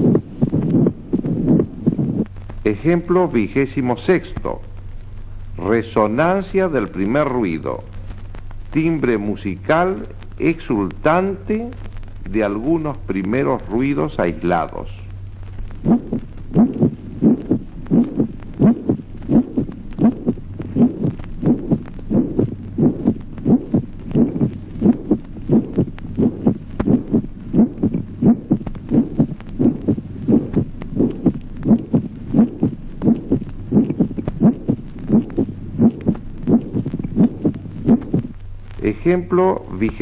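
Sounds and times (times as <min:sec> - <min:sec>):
heartbeat lub-dub: 0:00.0 - 0:40.0
steady low hum: 0:00.0 - 0:40.0.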